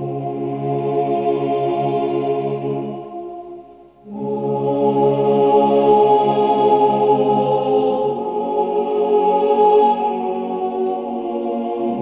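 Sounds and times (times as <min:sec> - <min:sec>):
music of sustained chords: 0:00.0 - 0:12.0.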